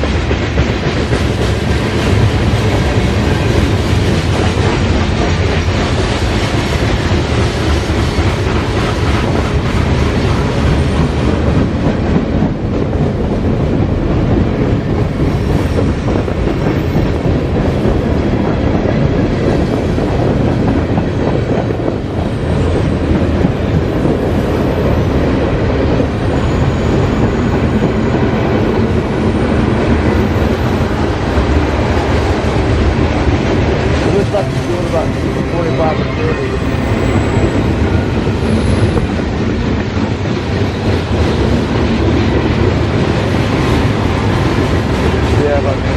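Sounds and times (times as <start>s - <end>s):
freight train rumbling past: 0.0s - 45.9s
train wheels clickety-clack: 0.0s - 45.9s.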